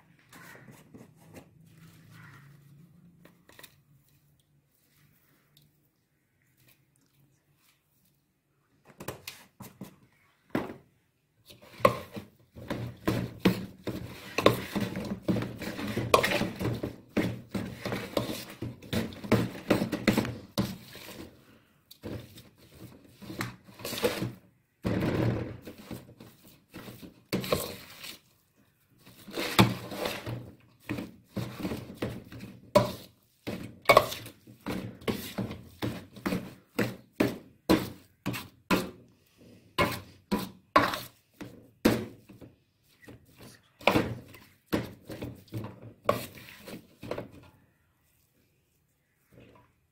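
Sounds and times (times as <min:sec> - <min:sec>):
squishing mashed potato: 0:00.0 - 0:10.5, 0:11.2 - 0:24.8, 0:25.6 - 0:49.9.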